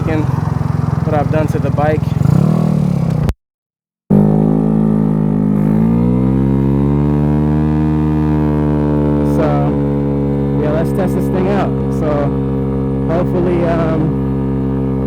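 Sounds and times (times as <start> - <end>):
scooter engine accelerating: 0.0 - 3.3, 4.1 - 15.0.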